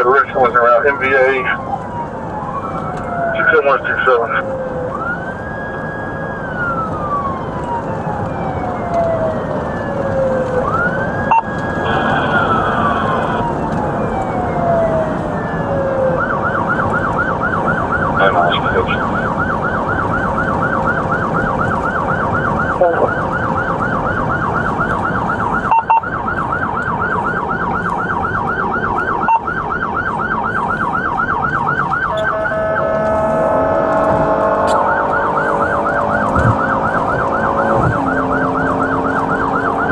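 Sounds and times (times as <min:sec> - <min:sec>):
police siren wailing and yelping: 0:00.0 - 0:39.9
road noise: 0:00.0 - 0:39.9.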